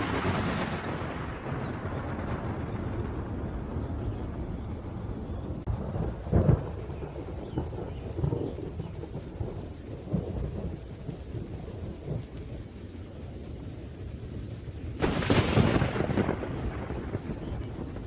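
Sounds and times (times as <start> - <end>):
sharp thunderclap: 0.0 - 12.3, 15.0 - 18.0
rain: 0.0 - 18.0
rolling thunder: 0.0 - 18.0.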